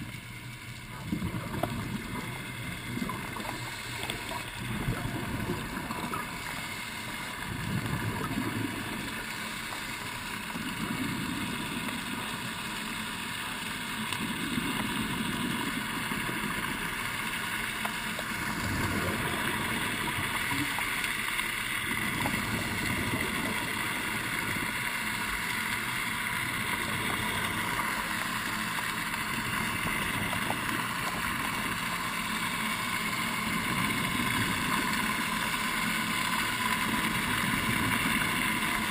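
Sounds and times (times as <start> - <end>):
regulator bubbles underwater: 0.0 - 38.9
steady high hum: 0.0 - 38.9.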